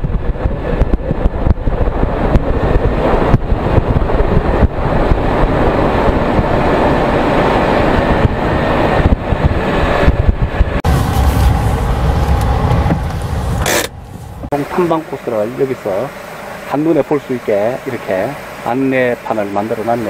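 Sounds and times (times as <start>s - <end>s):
engine and tyre noise: 0.0s - 20.0s.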